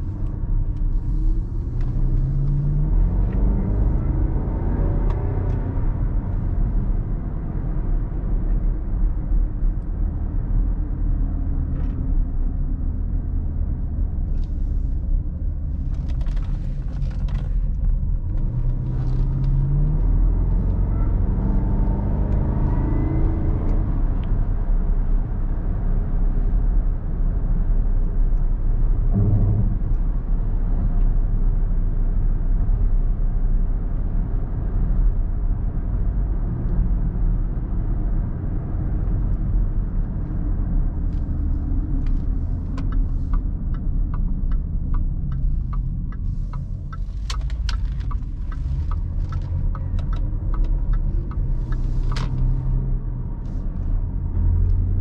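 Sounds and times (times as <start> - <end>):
car engine rumble inside cabin: 0.0 - 55.0
road noise: 0.0 - 55.0.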